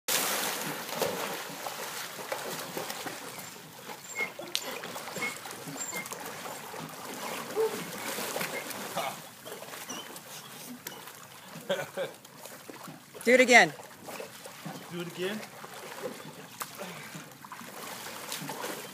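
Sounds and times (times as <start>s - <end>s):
water splashing and trickling: 0.1s - 18.9s.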